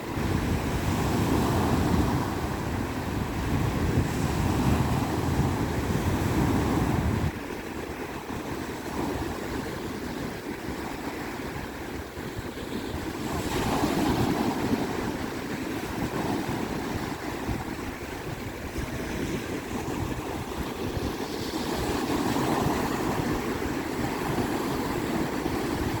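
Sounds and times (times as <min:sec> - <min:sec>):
sea waves breaking on a beach: 0:00.0 - 0:26.0
wind buffeting the microphone: 0:00.0 - 0:26.0.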